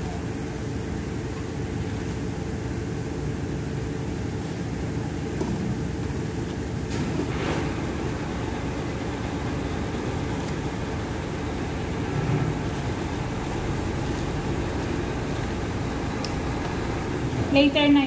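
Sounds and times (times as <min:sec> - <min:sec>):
stove low rumble: 0:00.0 - 0:18.0.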